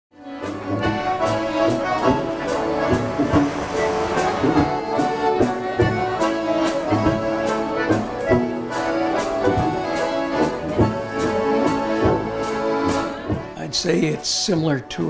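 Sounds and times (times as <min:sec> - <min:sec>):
concertina playing lively tune: 0:00.2 - 0:14.2.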